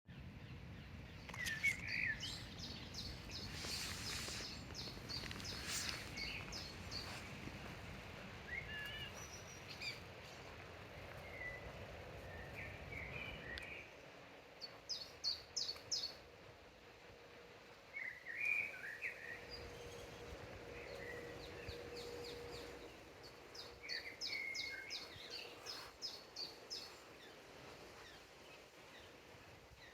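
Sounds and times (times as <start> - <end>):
songbirds singing: 0.1 - 29.9
low background rumble: 1.9 - 18.2, 19.1 - 29.9.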